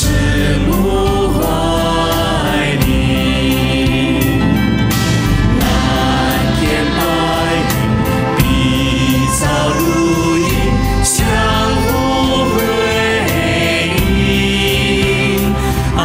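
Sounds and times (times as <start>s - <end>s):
choir singing over instrumental beat: 0.0s - 16.0s.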